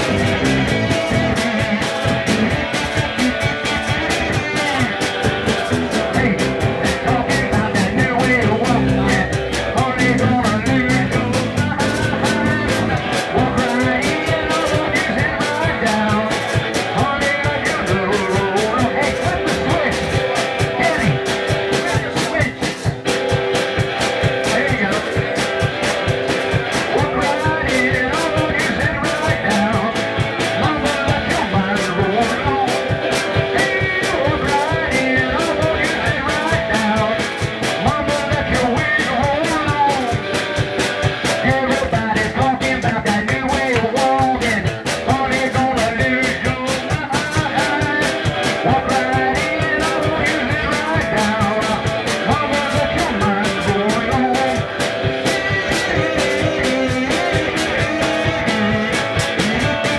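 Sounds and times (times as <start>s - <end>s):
blues rock band playing: 0.0s - 59.9s.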